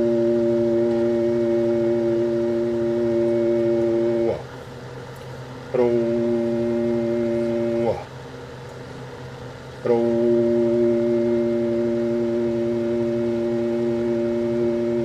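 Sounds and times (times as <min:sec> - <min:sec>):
loud mains hum: 0:00.0 - 0:15.0.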